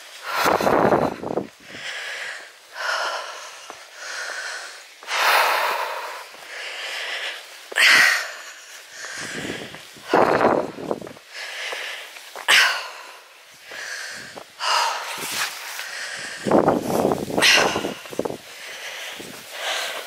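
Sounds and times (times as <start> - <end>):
person panting heavily: 0.0 - 20.0.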